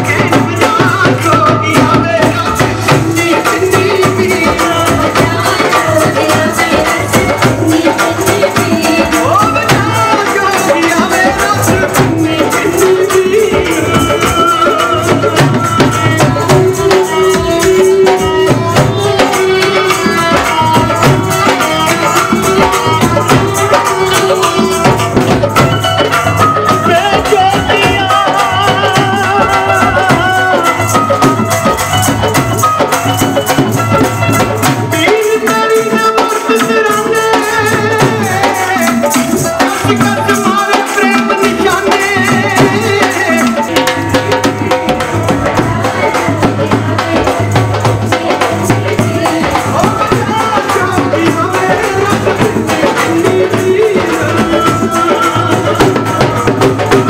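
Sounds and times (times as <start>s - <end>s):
bowed sarangi: 0.0s - 57.0s
dhol drum beat: 0.0s - 57.0s
man singing through a microphone: 0.0s - 57.0s.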